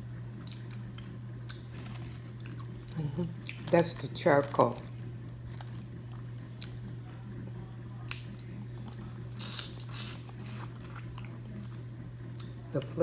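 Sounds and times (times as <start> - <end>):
low hum: 0.0 - 13.0
wet chewing: 0.1 - 6.9, 8.0 - 12.8.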